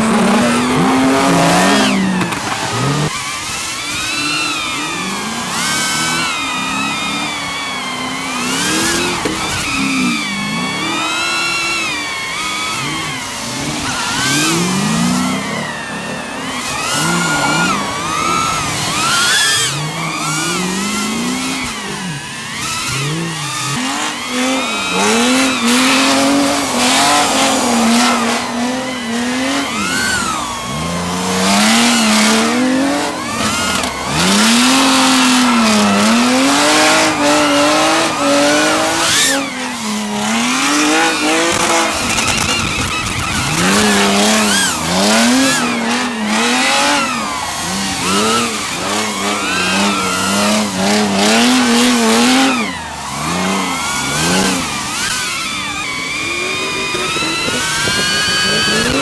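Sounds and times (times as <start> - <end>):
car engine revving hard: 0.0 - 59.0
tyres squealing: 0.0 - 59.0.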